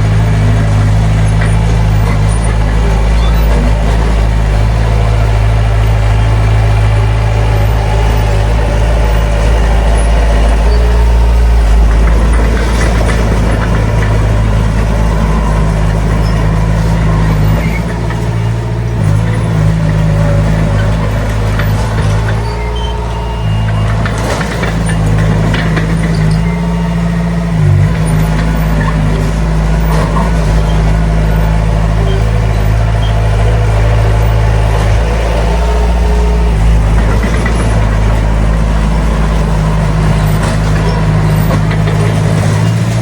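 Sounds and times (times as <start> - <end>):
heavy diesel engine under load: 0.0 - 43.0.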